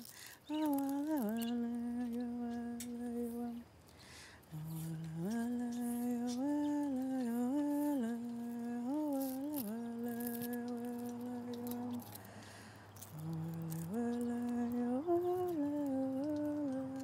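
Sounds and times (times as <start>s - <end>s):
person humming a slow melody: 0.0s - 17.0s.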